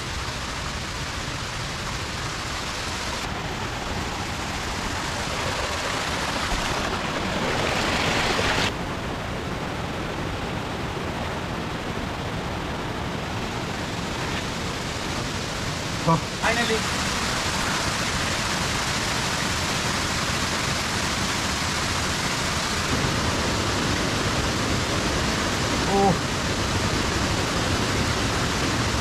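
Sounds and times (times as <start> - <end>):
stream pouring over rocks: 0.0 - 8.8, 12.1 - 29.0.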